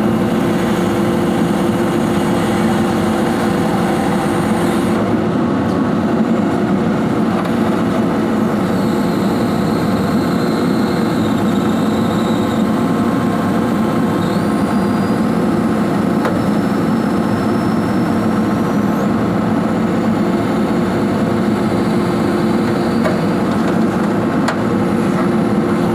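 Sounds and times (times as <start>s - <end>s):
excavator engine drone: 0.0s - 25.9s
high whines: 0.0s - 25.9s.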